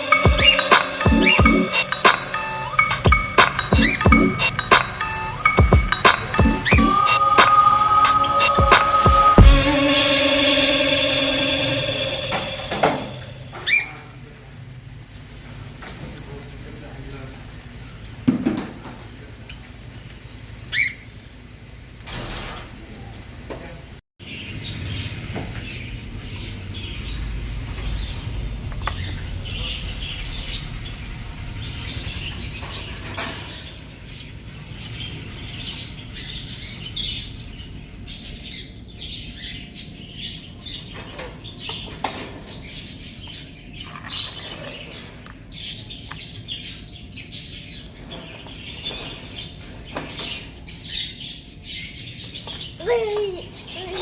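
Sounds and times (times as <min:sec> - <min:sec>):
cage birds chirping: 0:00.0 - 0:14.3, 0:19.1 - 0:22.0, 0:24.2 - 0:54.0.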